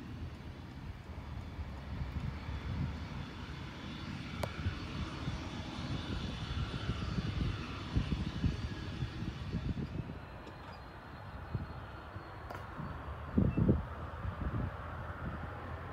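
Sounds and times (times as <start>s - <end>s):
jet engines at high power: 0.0s - 15.9s.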